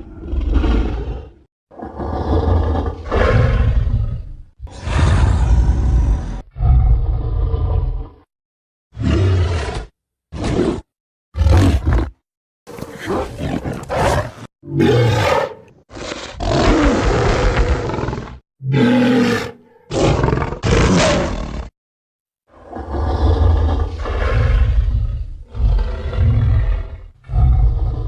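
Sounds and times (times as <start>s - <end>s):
giant ape roaring and growling: 0.0s - 8.3s, 9.0s - 21.8s, 22.5s - 28.0s.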